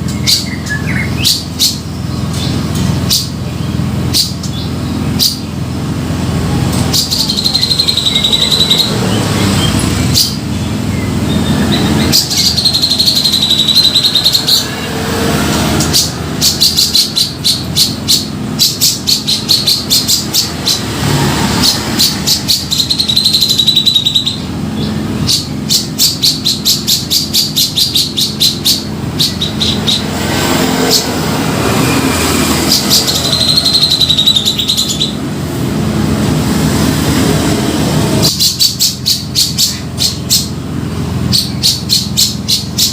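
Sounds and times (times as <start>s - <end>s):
bird calling with buzzy notes: 0.0s - 42.9s.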